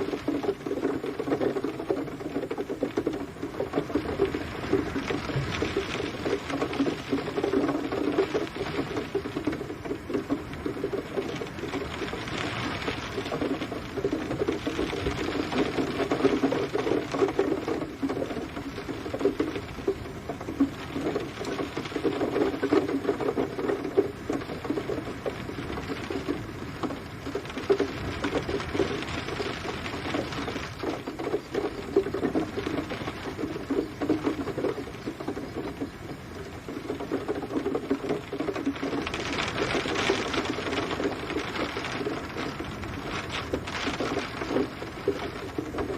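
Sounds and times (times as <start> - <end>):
rain pattering: 0.0 - 45.9.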